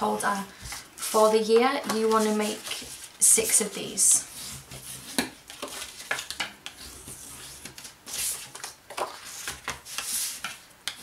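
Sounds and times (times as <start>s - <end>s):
paper scrapes and rustles: 0.3s - 10.6s.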